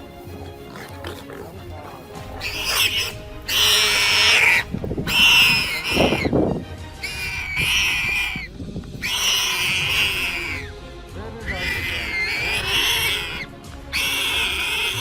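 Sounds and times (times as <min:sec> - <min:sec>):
wild boar squealing: 0:00.5 - 0:10.8, 0:11.4 - 0:15.0.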